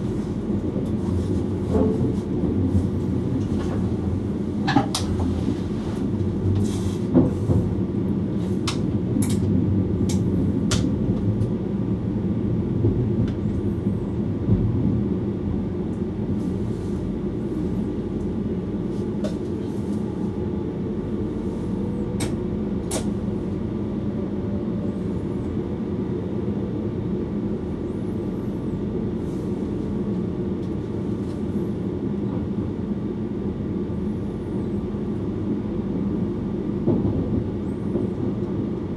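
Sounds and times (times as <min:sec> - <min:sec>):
electric train rumbling: 0:00.0 - 0:38.9.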